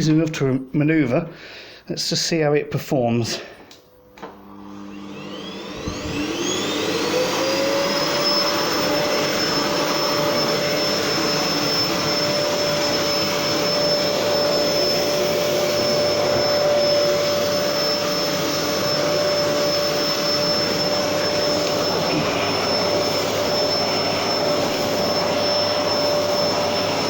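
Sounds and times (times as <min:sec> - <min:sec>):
vacuum cleaner running on carpet: 0:04.2 - 0:27.0.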